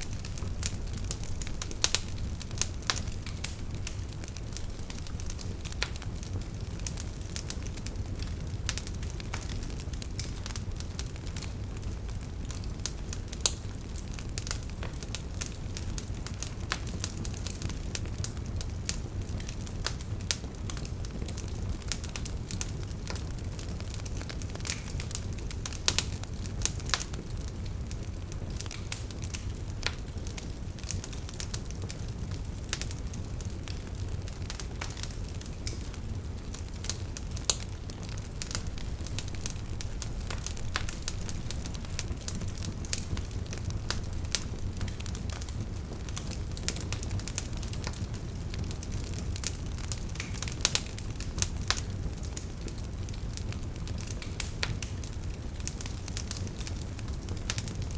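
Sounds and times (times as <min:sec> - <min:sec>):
campfire crackling and popping: 0:00.0 - 0:57.9
low rumble of flames: 0:00.0 - 0:57.9.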